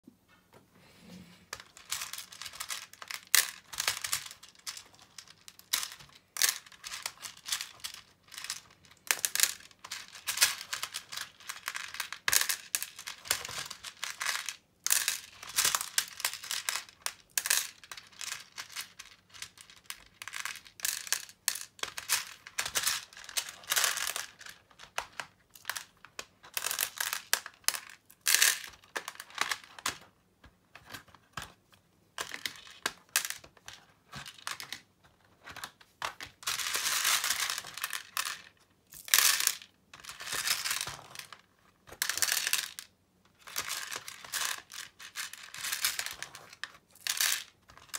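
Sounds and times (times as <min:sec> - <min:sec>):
plastic beads clicking and rattling: 0:01.5 - 0:30.1, 0:32.2 - 0:47.9.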